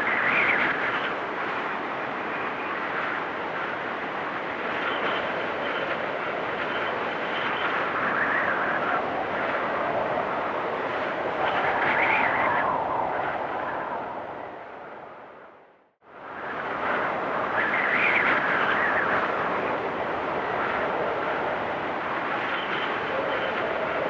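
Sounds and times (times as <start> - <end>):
blizzard wind gusting: 0.0 - 24.0.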